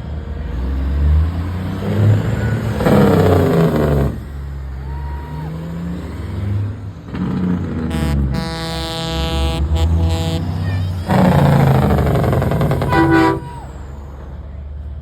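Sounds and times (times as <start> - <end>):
truck diesel engines rumbling: 0.0 - 15.0.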